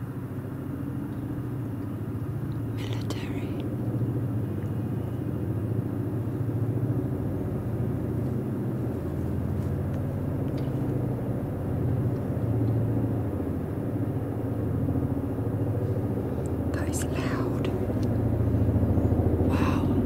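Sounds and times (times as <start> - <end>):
helicopter flying low overhead: 0.0 - 20.0.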